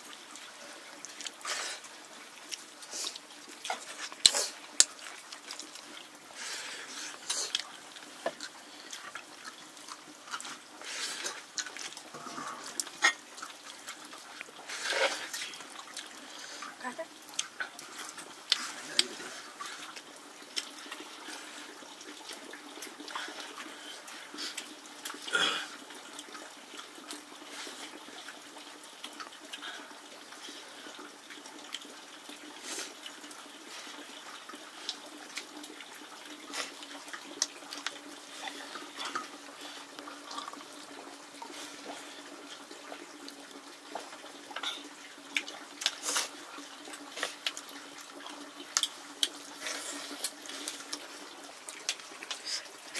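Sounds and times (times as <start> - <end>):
running splashing water: 0.0 - 52.9.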